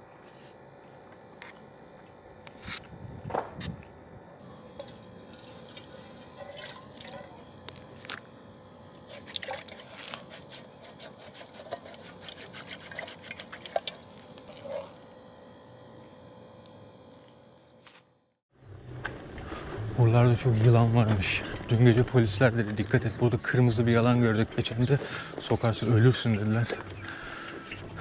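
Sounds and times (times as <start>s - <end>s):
faint steady hum: 0.0s - 18.4s, 19.0s - 28.0s.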